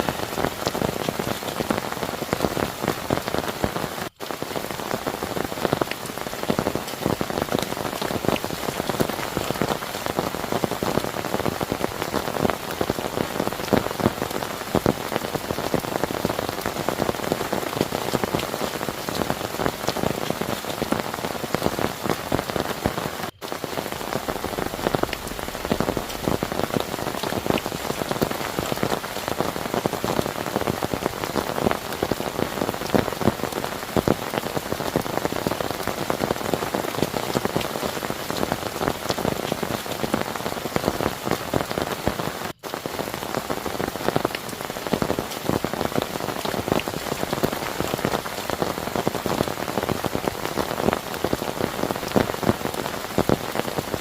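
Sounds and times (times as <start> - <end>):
heavy rain falling: 0.0 - 54.0
raindrops pattering close by: 0.0 - 54.0.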